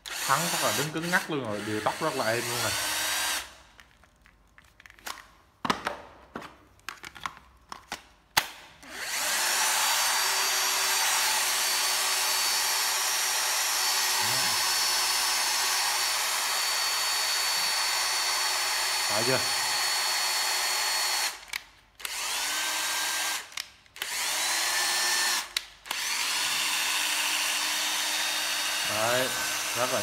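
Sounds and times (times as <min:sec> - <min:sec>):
cordless drill running: 0:00.0 - 0:03.6, 0:08.8 - 0:30.0.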